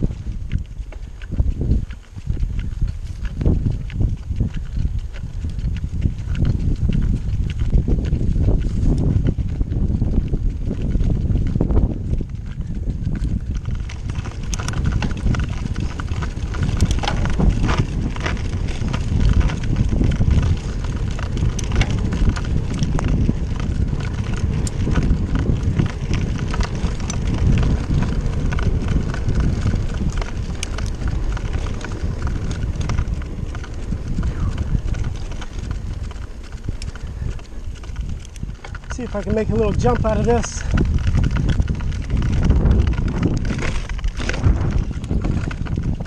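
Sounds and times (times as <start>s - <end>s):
bike rattling and knocking: 0.0s - 46.0s
tyre rumble: 0.0s - 46.0s
wind on microphone: 0.0s - 46.0s.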